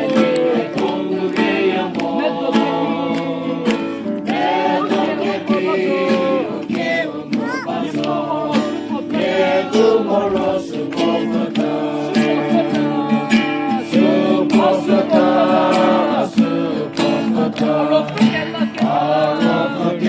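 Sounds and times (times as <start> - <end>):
group of people singing: 0.0 - 20.0
guitar: 0.0 - 20.0.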